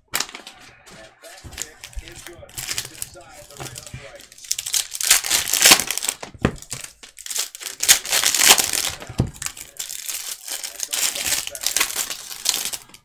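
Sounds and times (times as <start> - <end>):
cards sliding: 0.2 - 13.0
plastic wrapper crinkling and tearing: 1.4 - 13.0.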